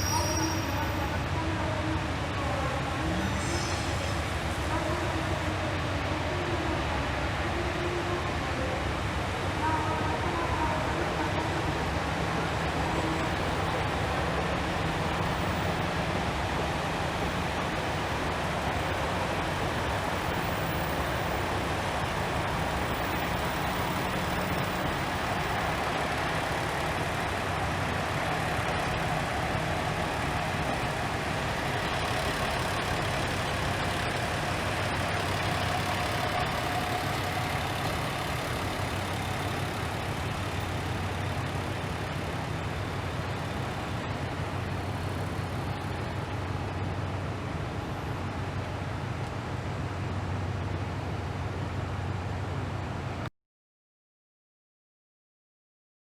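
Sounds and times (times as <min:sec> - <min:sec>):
diesel railcar engines idling: 0:00.0 - 0:53.2.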